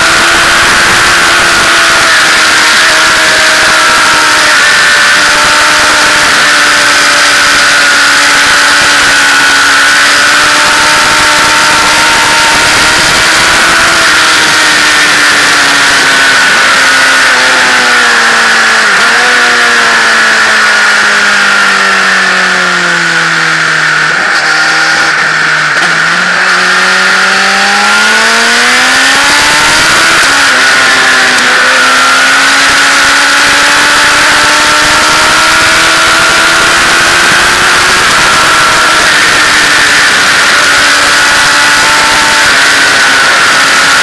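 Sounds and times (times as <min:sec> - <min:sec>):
wind noise on microphone: 0:00.0 - 0:19.3, 0:27.8 - 0:44.0
motorcycle engine: 0:00.0 - 0:44.0.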